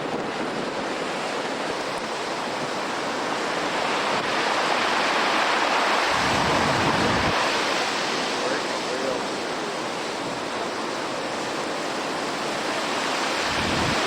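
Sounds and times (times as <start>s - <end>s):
wind buffeting microphone: 0.0s - 8.7s, 9.3s - 14.0s
surf crashing ashore: 0.0s - 14.0s.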